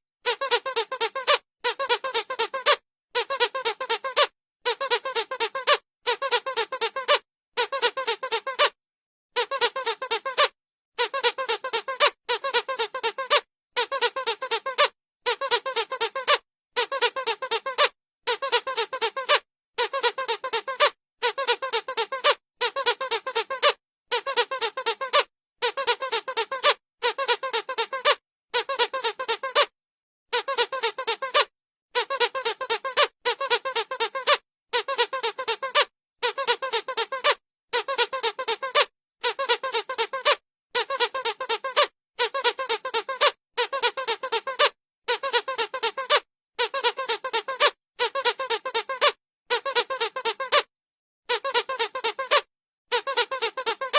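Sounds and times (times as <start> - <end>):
squeaky dog toy squeaking: 0.2 - 8.8, 9.4 - 50.7, 51.3 - 53.9.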